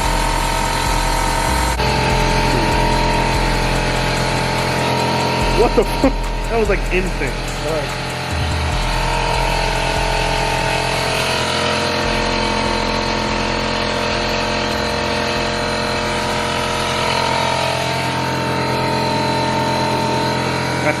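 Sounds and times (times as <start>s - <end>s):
air tool hissing: 0.0s - 21.0s
steady hum: 0.0s - 21.0s.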